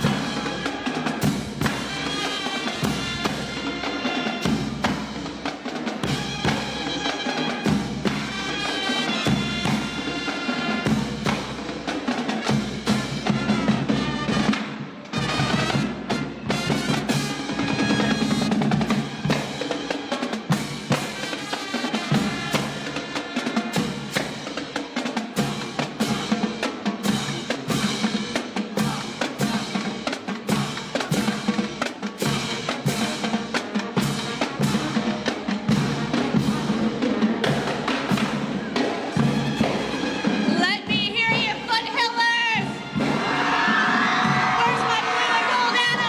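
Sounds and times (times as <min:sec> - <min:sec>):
drums playing driving beat: 0:00.0 - 0:46.0.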